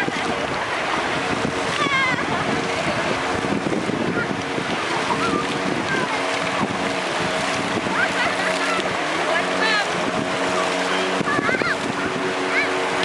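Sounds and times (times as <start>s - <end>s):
boat engine running: 0.0s - 13.0s
splashing water: 0.0s - 13.0s
voices calling out: 0.0s - 13.0s
wind: 0.0s - 13.0s.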